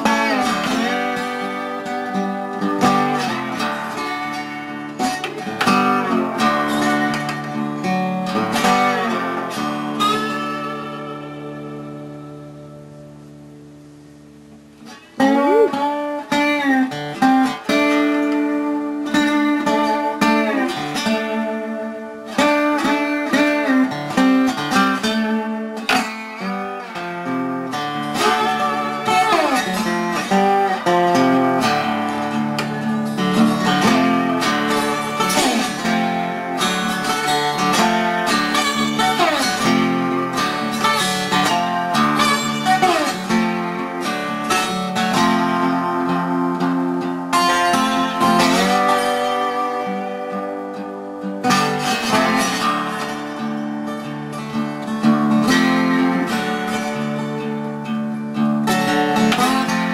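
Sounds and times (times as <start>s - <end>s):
slide guitar notes: 0.0s - 59.9s.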